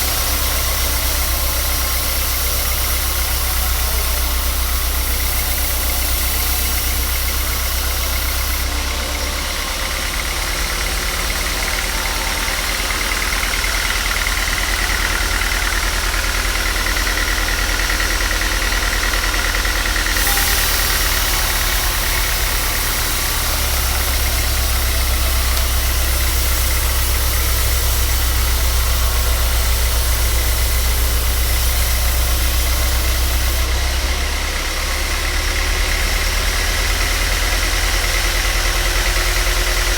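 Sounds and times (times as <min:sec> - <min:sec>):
woodworking machine motor running: 0:00.0 - 0:39.9.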